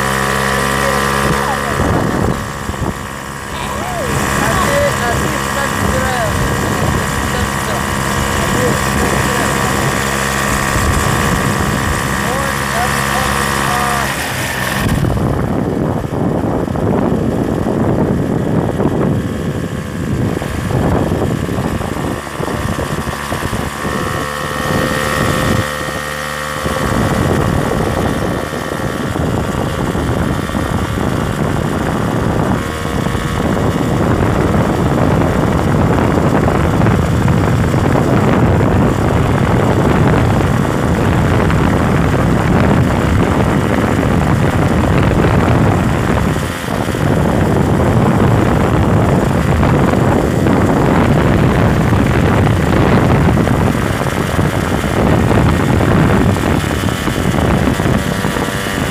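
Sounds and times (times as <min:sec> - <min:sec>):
vehicle engine and road noise: 0:00.0 - 0:58.9
wind buffeting microphone: 0:00.0 - 0:58.9.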